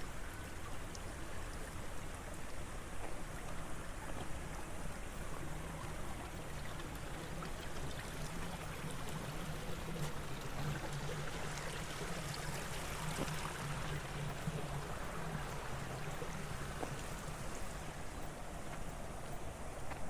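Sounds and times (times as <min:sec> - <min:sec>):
water running in channel: 0:00.0 - 0:20.0.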